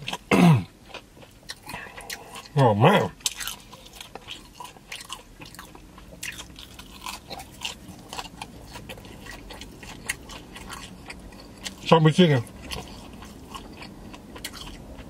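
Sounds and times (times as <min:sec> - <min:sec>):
person chewing chicken wings: 0:00.0 - 0:15.0.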